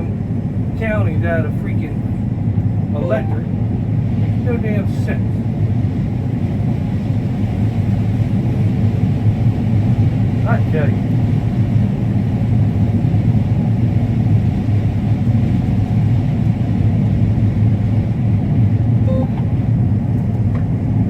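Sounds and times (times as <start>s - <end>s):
combine harvester drone: 0.0s - 21.0s.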